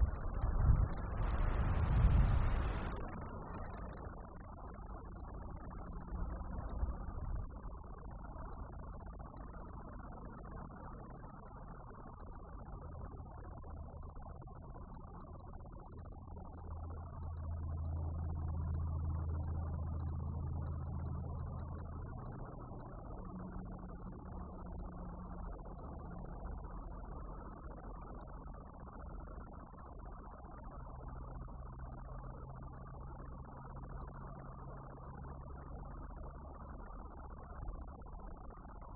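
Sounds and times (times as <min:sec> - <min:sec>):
cicada high-pitched buzz: 0:00.0 - 0:38.9.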